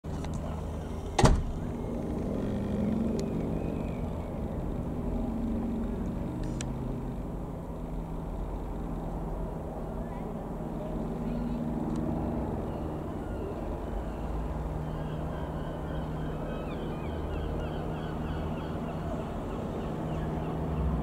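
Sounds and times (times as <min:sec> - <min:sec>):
plane engine droning overhead: 0:00.1 - 0:21.0.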